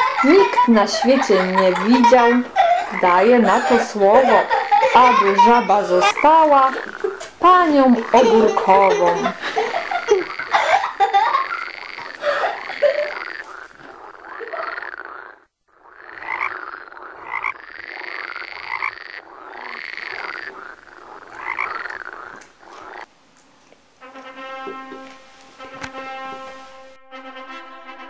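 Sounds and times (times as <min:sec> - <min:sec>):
frogs croaking: 0:00.0 - 0:26.9.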